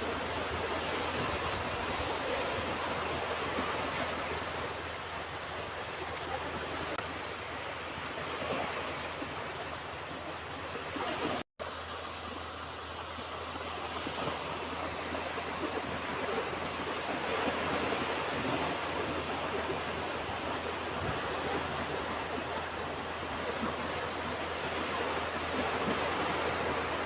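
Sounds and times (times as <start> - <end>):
ocean surf on a beach: 0.0 - 27.0.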